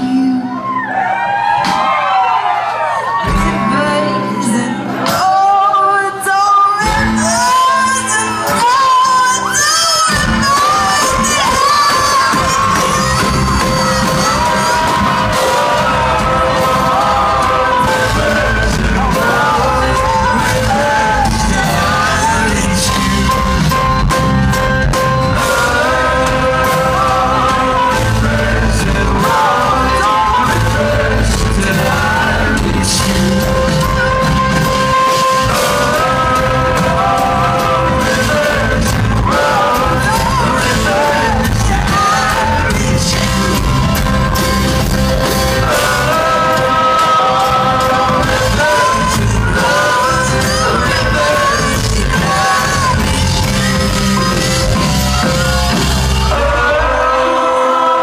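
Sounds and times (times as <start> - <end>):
person singing: 0.0 - 0.9, 3.2 - 58.0
folk band playing live: 6.3 - 57.1.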